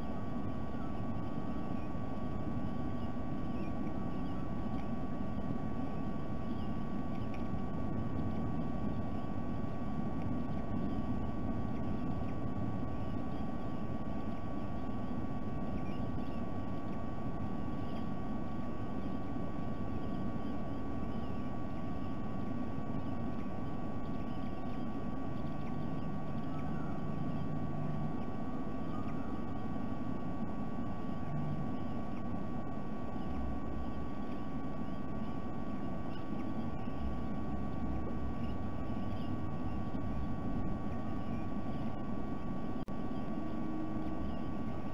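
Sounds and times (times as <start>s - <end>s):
thin electrical whine: 0.0s - 44.9s.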